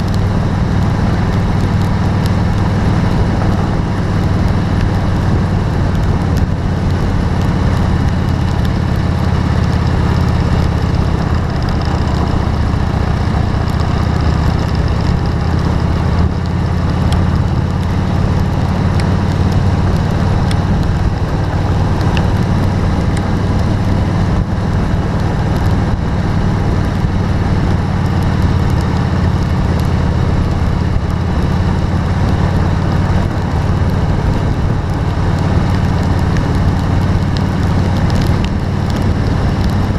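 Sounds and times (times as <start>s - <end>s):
rain hiss: 0.0s - 39.9s
vehicle engine rumbling: 0.0s - 39.9s.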